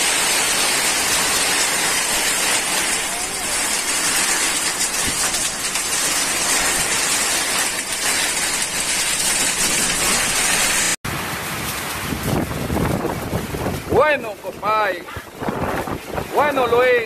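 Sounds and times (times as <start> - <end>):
heavy rain in storm wind: 0.0 - 17.0.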